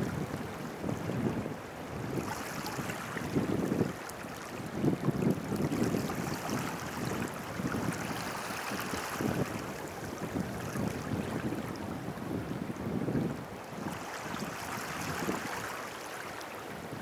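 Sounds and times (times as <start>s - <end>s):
wind buffeting microphone: 0.0s - 4.0s, 4.6s - 15.7s
shallow water lapping on sand: 0.0s - 17.0s.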